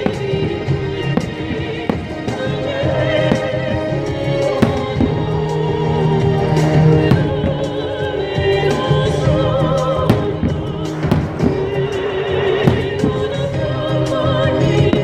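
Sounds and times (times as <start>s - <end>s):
firework bangs: 0.0s - 15.0s
music with singing voice: 0.0s - 15.0s.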